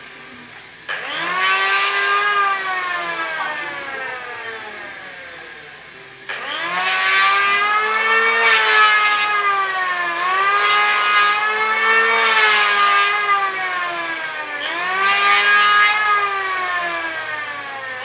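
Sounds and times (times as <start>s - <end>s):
electric planer motor: 0.0s - 18.0s
planer shaving wood: 0.0s - 18.0s.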